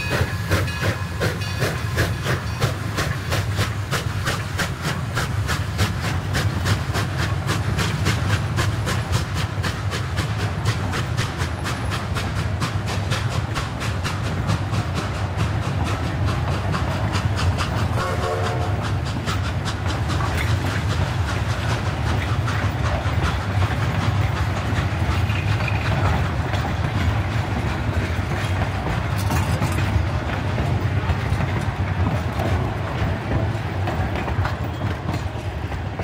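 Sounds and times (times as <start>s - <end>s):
low rumble of train: 0.0s - 36.0s
train wheels clicking over rail joints: 0.0s - 36.0s.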